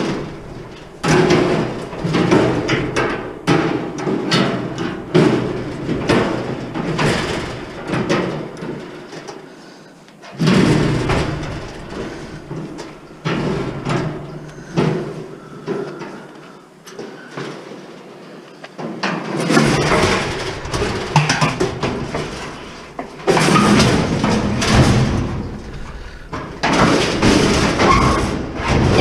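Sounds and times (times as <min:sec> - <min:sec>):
metal parts clanking and banging: 0:00.0 - 0:09.5, 0:10.2 - 0:16.3, 0:18.8 - 0:29.0.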